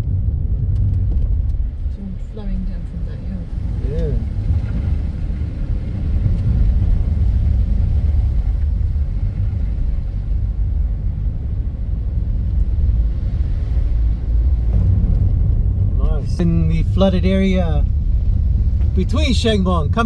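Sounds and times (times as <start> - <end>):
car driving on road: 0.0 - 20.0.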